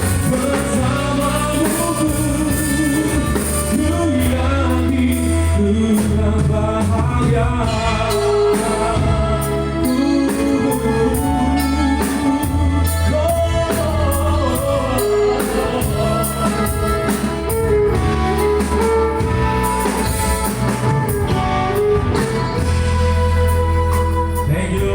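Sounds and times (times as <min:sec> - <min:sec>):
pop song with singing: 0:00.0 - 0:24.9.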